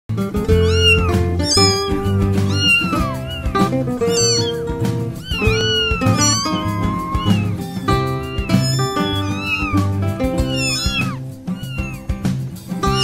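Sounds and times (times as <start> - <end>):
background music with bass line: 0.1 - 13.0
cat meowing: 0.5 - 12.2, 12.8 - 13.0.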